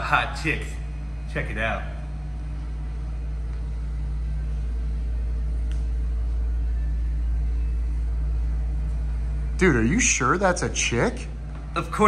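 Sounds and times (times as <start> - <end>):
faint even hum: 0.0 - 12.0
steady low rumble: 0.0 - 12.0.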